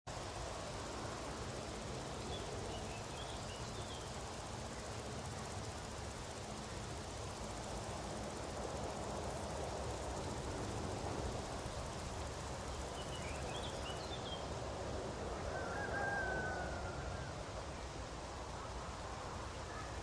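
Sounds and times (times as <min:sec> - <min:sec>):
outdoor background noise: 0:00.1 - 0:20.0.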